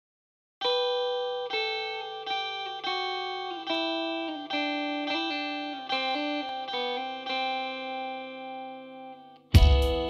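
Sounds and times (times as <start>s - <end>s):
electric guitar ringing chords: 0.6s - 10.0s.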